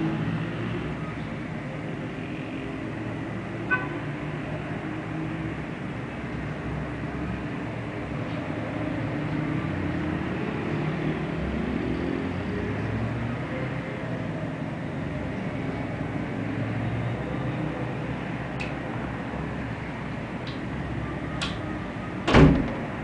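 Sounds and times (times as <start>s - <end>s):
car engines passing: 0.0s - 23.0s.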